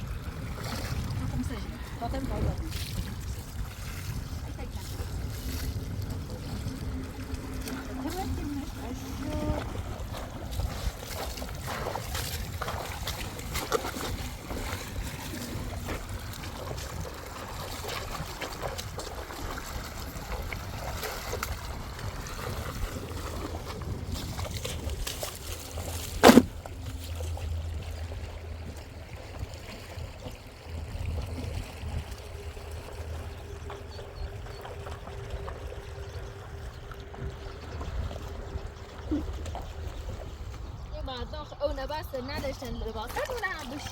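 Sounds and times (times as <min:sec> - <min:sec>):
water trickling: 0:00.0 - 0:43.9.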